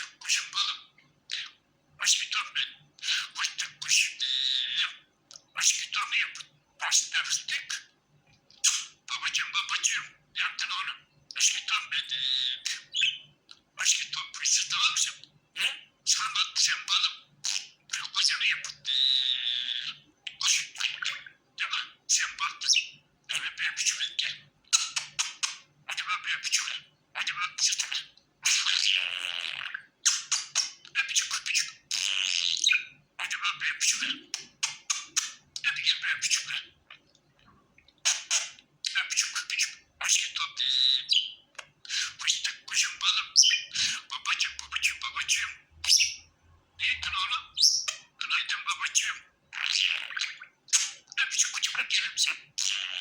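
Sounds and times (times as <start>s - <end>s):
budgerigar chattering and chirping: 0.0s - 37.1s, 38.0s - 53.0s.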